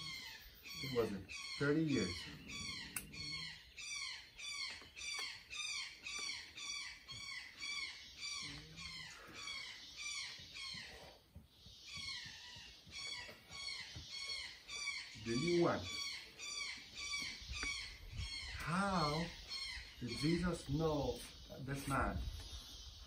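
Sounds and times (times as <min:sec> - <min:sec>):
bird chirping rapidly: 0:00.0 - 0:23.0.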